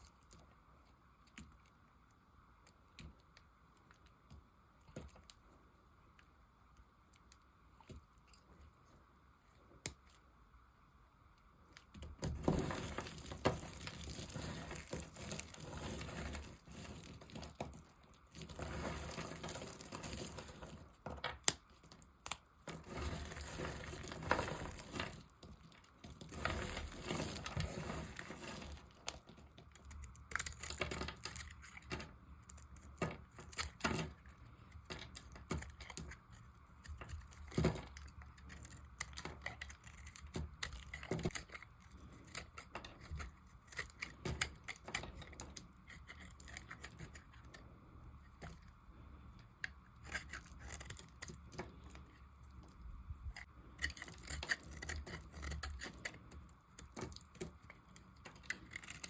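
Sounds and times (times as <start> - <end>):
knife scraping dry soap: 11.7 - 59.0.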